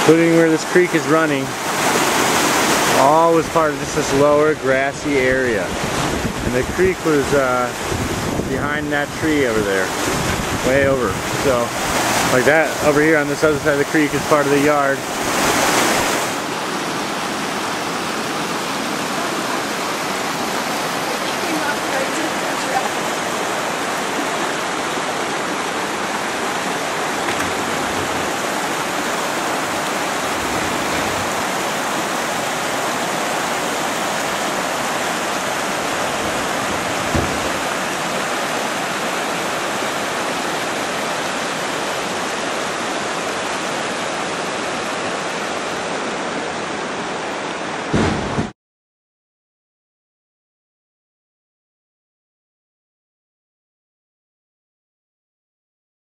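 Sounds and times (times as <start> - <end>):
creek water rushing over rocks: 0.0 - 48.5.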